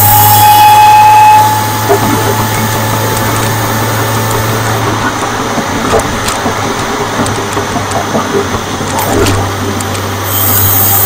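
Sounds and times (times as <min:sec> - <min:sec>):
steady rushing noise: 0:00.0 - 0:11.0
car engine running: 0:01.5 - 0:11.0.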